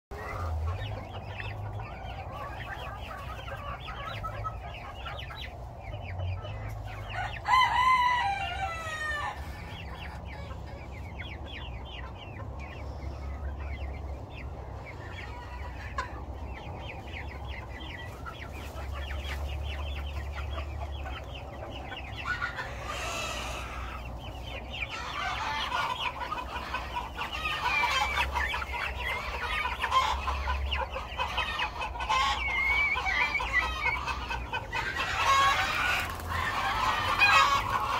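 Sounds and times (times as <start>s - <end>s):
chicks peeping and chirping: 0.1s - 37.9s.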